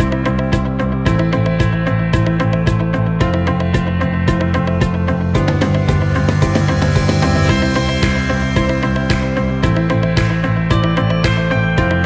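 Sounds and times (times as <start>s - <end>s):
background music with plucked guitar: 0.0s - 12.0s.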